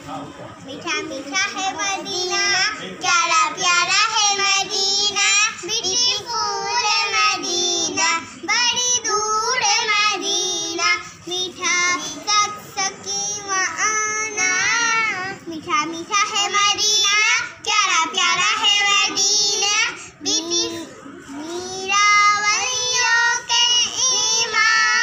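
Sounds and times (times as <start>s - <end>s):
girls singing: 1.2s - 25.0s.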